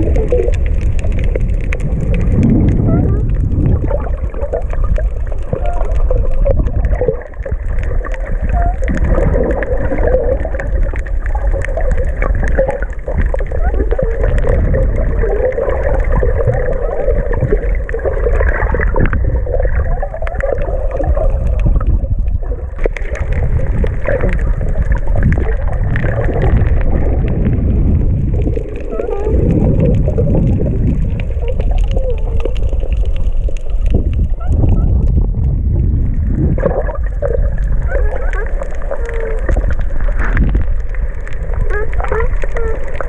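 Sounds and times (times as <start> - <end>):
small clicks and crackles: 0.0 - 43.0
underwater low rumble: 0.0 - 43.0.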